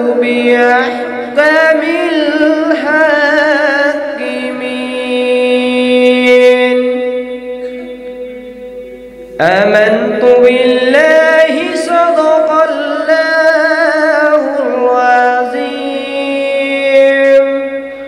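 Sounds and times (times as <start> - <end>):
man reciting melodically: 0.0 - 8.4, 9.4 - 18.0.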